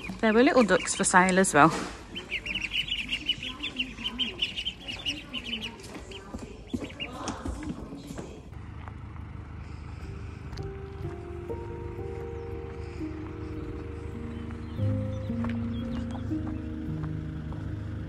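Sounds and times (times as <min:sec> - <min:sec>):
ducklings peeping: 0:00.0 - 0:08.4, 0:09.4 - 0:18.0.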